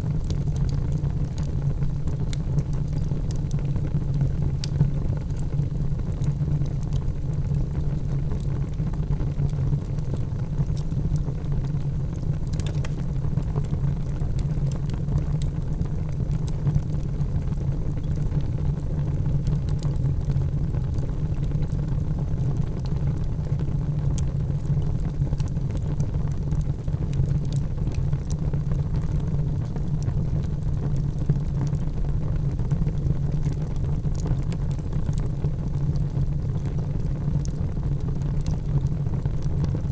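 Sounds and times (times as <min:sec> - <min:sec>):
wood fire crackling: 0:00.0 - 0:39.9
fire pops and snaps: 0:00.1 - 0:39.9.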